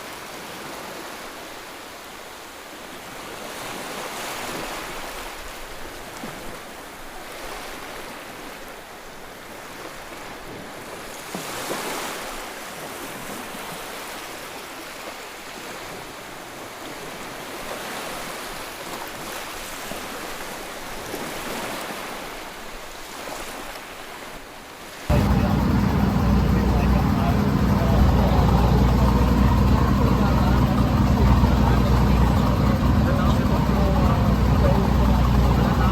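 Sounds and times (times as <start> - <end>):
sea waves washing onto beach: 0.0 - 35.9.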